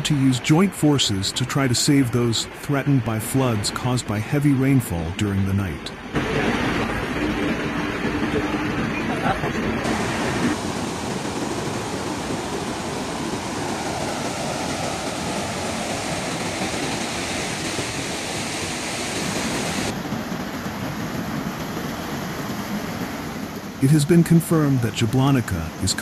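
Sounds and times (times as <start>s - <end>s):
flood water rushing: 0.0s - 26.0s.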